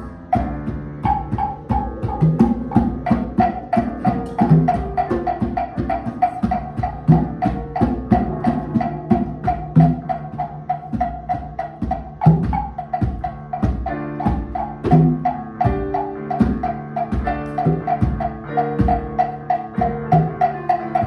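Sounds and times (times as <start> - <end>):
quick tapping percussion: 0.0 - 21.0.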